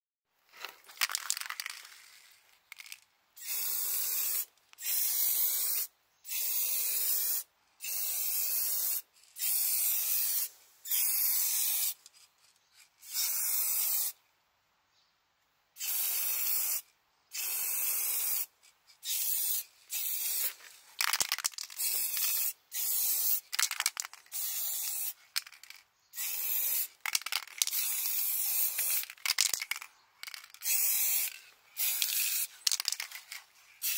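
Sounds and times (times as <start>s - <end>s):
aerosol spray can hissing: 3.4s - 12.0s, 13.0s - 14.2s, 15.8s - 33.9s.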